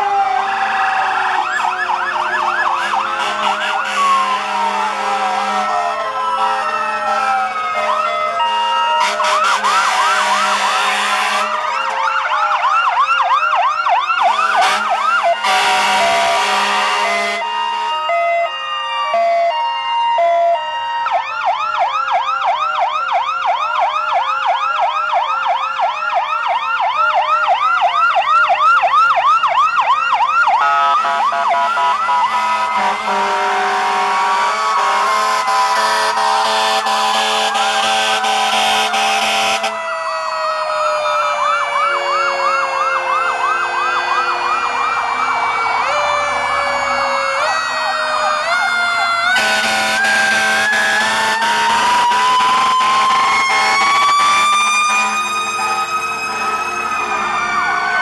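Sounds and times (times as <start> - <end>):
electronic sirens yelping: 0.0 - 58.0
mechanical siren wailing: 0.0 - 58.0
steady siren horn tones: 0.0 - 58.0.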